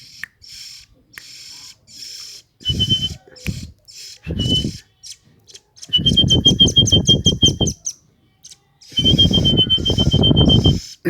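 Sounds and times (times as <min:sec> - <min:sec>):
songbird trilling: 0:00.0 - 0:11.0.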